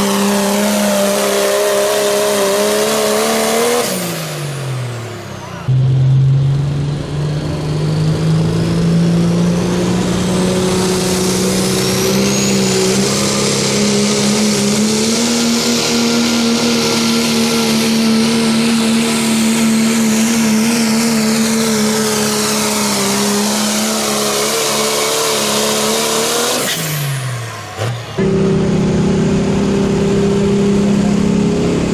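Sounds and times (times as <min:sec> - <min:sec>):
diesel engine at full throttle: 0:00.0 - 0:31.9
turbocharger whine: 0:00.0 - 0:31.9.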